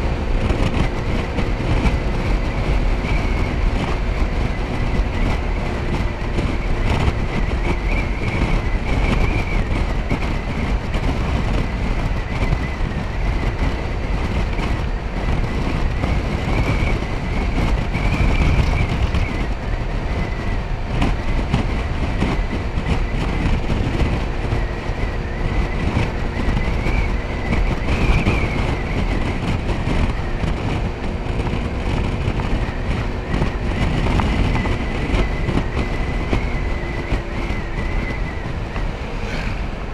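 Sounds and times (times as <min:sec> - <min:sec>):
road noise: 0:00.0 - 0:39.9
scooter engine drone: 0:00.0 - 0:39.9
wind rumble on microphone: 0:00.0 - 0:39.9.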